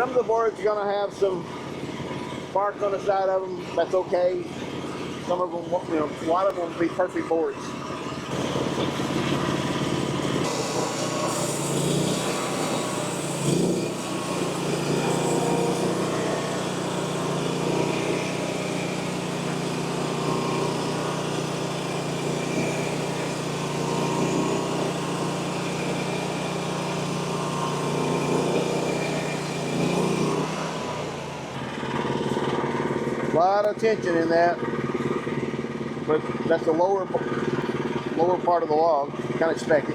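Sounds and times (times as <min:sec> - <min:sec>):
bandsaw mill sawing wood: 0:00.0 - 0:39.9.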